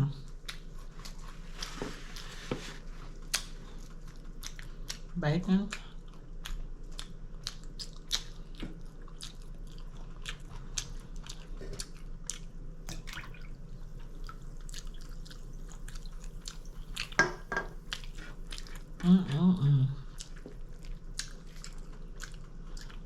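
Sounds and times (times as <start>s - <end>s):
close chewing of crispy food: 0.2s - 12.9s, 13.5s - 17.2s, 17.8s - 23.0s.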